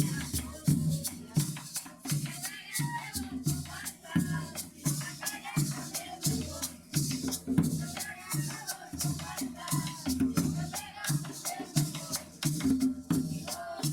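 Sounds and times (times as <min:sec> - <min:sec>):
drum beat: 0:00.0 - 0:13.9
maraca shaking: 0:00.0 - 0:13.9.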